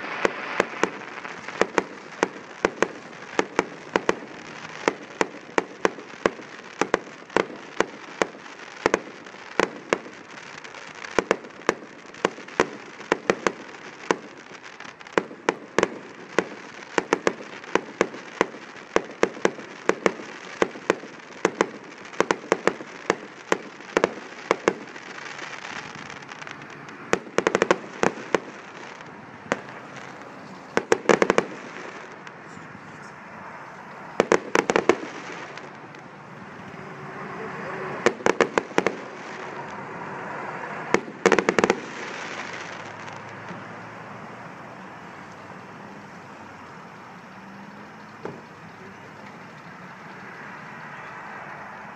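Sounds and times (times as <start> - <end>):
fireworks bursting: 0.0 - 51.9.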